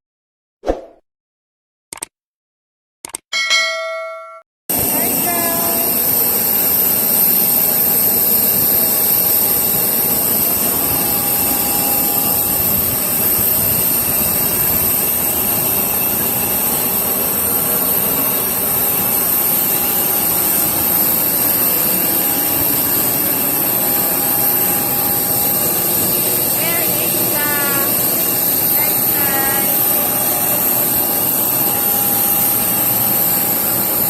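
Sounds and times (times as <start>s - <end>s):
jet engines running: 4.7s - 34.0s.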